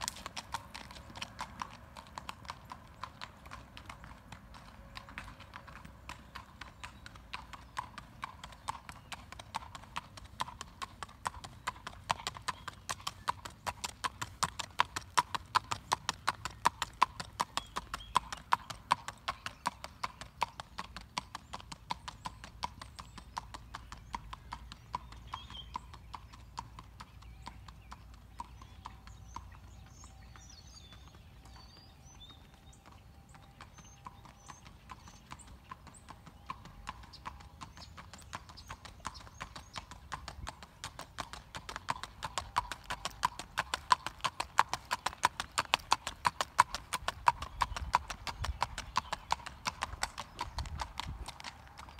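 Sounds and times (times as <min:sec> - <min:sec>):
horse hoofbeats: 0:00.0 - 0:51.9.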